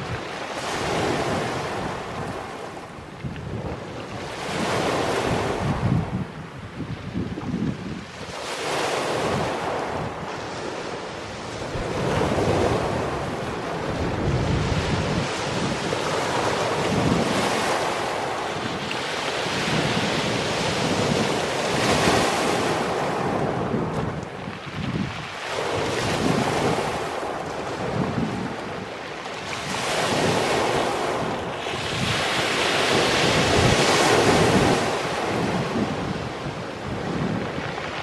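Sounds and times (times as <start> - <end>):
waves washing up pebble beach: 0.0 - 6.3, 7.2 - 38.0.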